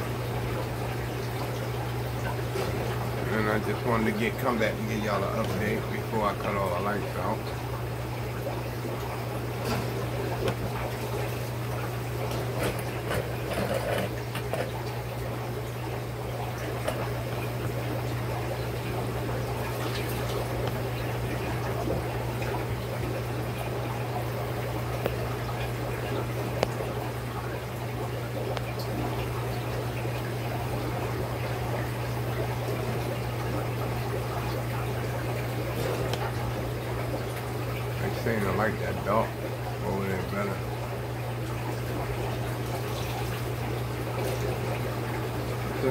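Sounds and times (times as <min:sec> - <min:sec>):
aquarium water trickling and bubbling: 0:00.0 - 0:45.9
steady low hum: 0:00.0 - 0:45.9.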